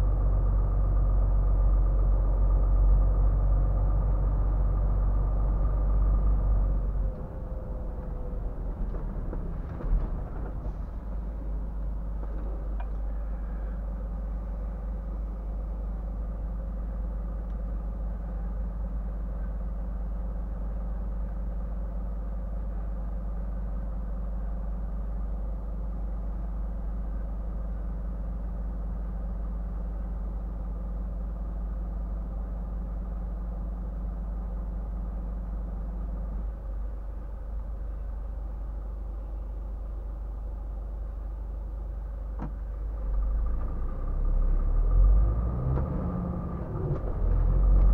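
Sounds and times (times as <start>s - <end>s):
truck diesel engine idling: 0.0s - 47.9s.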